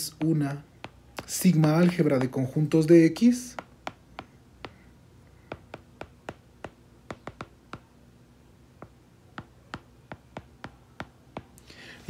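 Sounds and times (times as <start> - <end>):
stylus tapping on screen: 0.0 - 8.0, 8.7 - 11.6.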